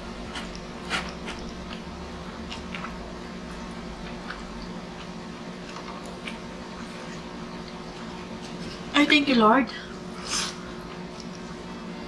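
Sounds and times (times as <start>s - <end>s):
air conditioner compressor hum: 0.0s - 12.0s
chewing and wet smacking: 0.2s - 8.8s, 10.4s - 11.6s.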